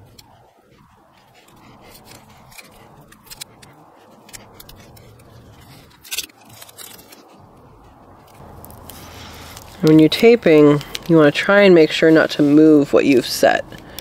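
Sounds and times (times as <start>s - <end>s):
tape rustling and crinkling: 0.0s - 14.0s.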